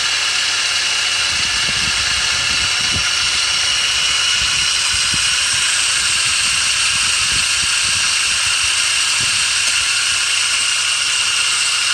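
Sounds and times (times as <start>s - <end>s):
belt pulley whine: 0.0s - 11.9s
hiss: 1.8s - 11.9s.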